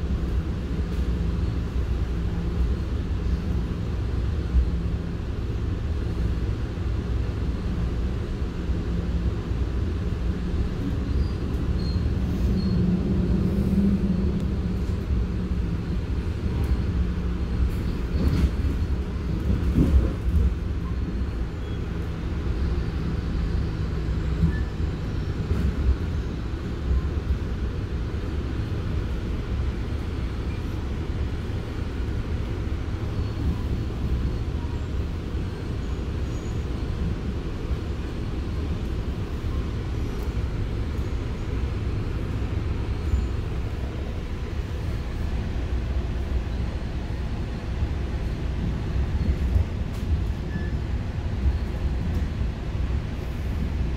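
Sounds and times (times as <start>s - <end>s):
train wheels rumbling on track: 0.0s - 53.9s.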